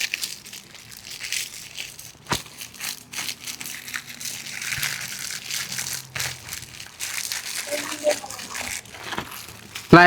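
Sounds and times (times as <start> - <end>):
cookies crushed in plastic wrapper: 0.0 - 10.0.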